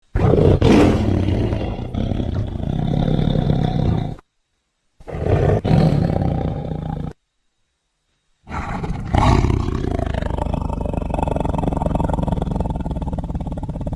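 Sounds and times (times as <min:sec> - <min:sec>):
tiger roaring: 0:00.1 - 0:04.2, 0:05.0 - 0:07.2, 0:08.5 - 0:13.9.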